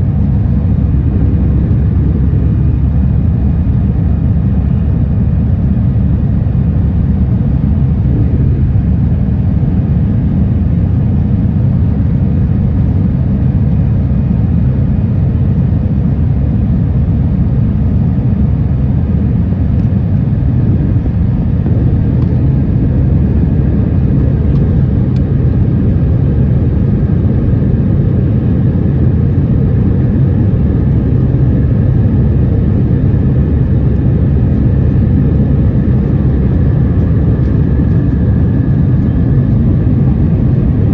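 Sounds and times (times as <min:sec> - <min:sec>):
faint steady whine: 0:00.0 - 0:40.9
jet engines and airflow rumble: 0:00.0 - 0:40.9.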